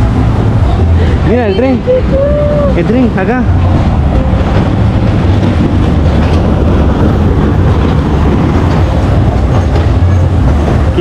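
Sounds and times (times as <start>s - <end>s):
small train rumbling past: 0.0s - 11.0s.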